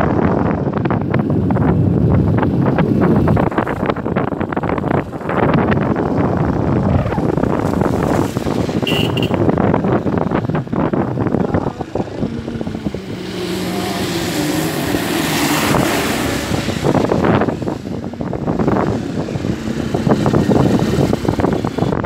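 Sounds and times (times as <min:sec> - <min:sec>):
vehicle engine and road noise: 0:00.0 - 0:22.0
wind buffeting microphone: 0:00.0 - 0:22.0.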